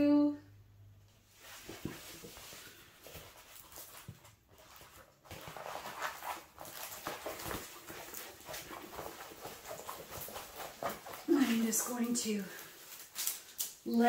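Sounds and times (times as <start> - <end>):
canvas rustling and crinkling: 1.1 - 14.0.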